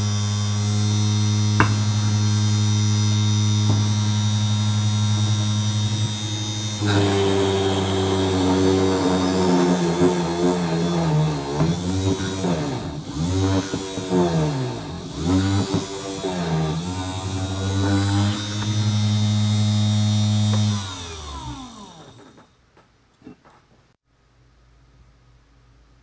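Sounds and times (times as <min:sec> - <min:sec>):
drill motor drilling wood: 0:00.0 - 0:22.5.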